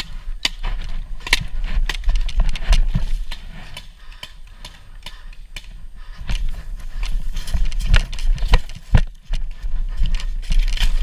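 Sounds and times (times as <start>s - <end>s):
wind noise on microphone: 0.0s - 3.8s, 5.7s - 11.0s
rumbling movement noise: 0.0s - 11.0s.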